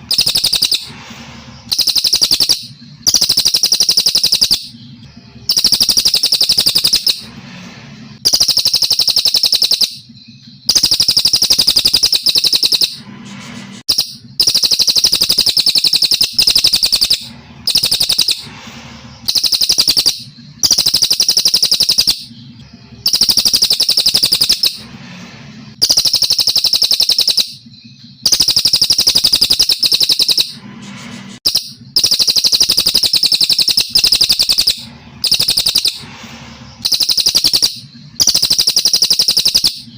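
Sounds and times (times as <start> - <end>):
bird singing rapid trills: 0.0 - 7.4, 8.0 - 13.0, 13.9 - 30.6, 31.4 - 39.9.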